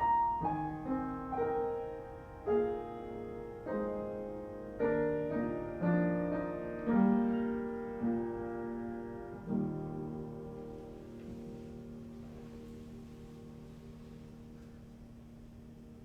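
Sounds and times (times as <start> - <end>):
piano chord ringing: 0.0 - 16.0.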